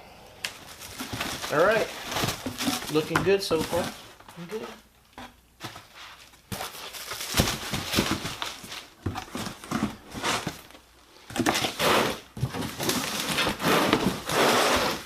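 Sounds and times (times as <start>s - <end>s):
packaging rustling and crinkling: 0.4s - 4.8s, 5.6s - 15.0s.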